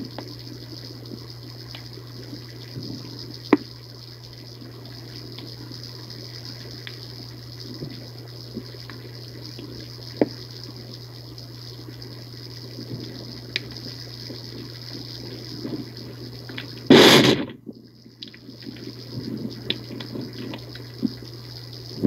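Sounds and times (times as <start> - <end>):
trickling water-like rush: 0.0 - 22.0
faint clicks: 1.0 - 3.8, 4.8 - 11.0, 12.8 - 21.9.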